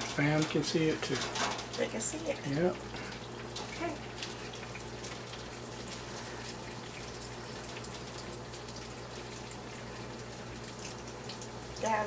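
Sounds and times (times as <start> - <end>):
food frying in hot grease: 0.0 - 12.0.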